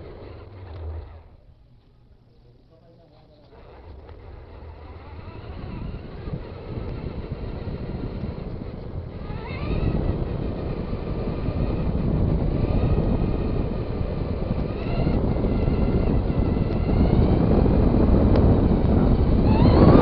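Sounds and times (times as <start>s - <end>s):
electric motor whine: 0.0s - 1.9s, 3.2s - 20.0s
tyres rumbling: 0.0s - 20.0s
wind noise: 3.6s - 20.0s.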